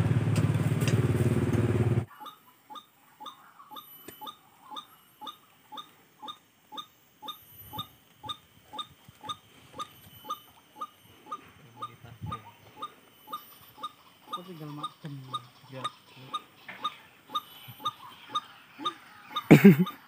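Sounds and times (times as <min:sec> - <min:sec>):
small animal calling: 0:02.1 - 0:20.0.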